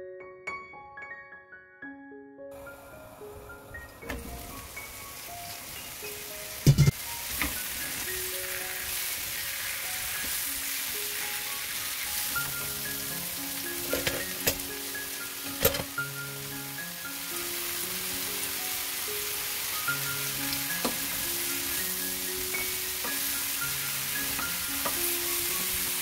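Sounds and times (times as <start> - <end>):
mushrooms sizzling in oil: 2.6 - 26.0.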